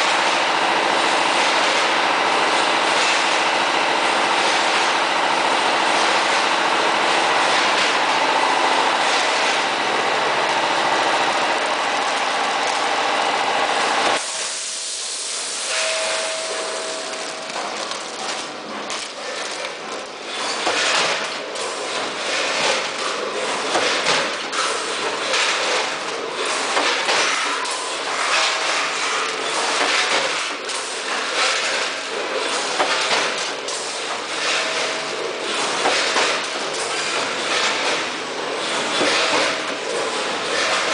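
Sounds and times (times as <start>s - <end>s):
packing machine hum and hiss: 0.0s - 40.9s
machine clicks and clacks: 1.0s - 14.2s, 17.0s - 40.9s.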